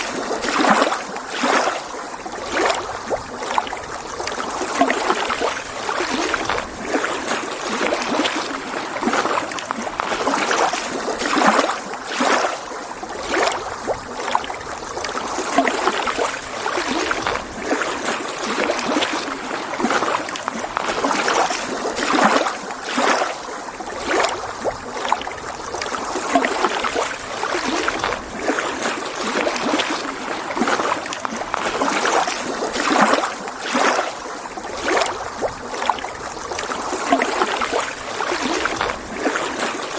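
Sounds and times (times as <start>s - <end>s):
lake waves lapping on shore: 0.0s - 39.9s.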